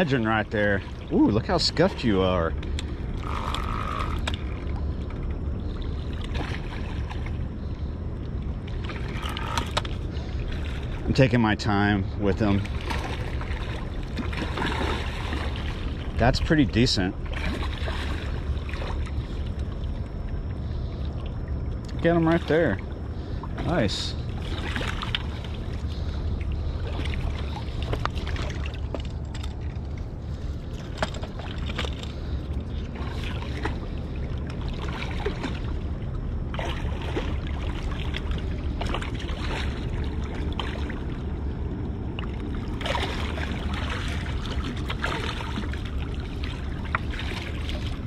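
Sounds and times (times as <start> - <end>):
low rumble: 0.0 - 48.0
water splashing: 0.0 - 48.0.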